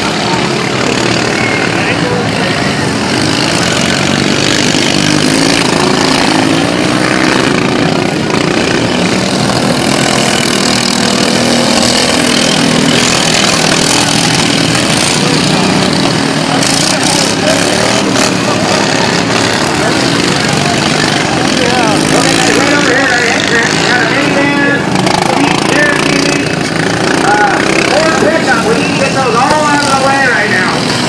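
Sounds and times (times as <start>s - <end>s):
racing lawn mower engines: 0.0s - 31.0s.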